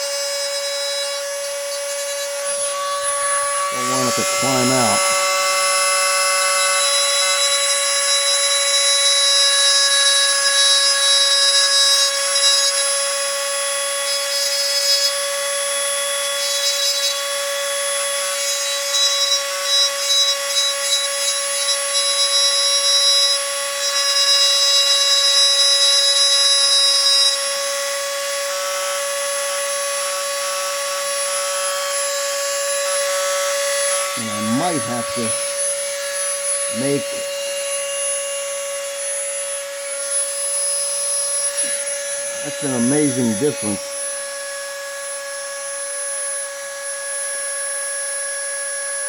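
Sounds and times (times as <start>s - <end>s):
rotary tool grinding: 0.0s - 27.7s, 30.8s - 44.2s.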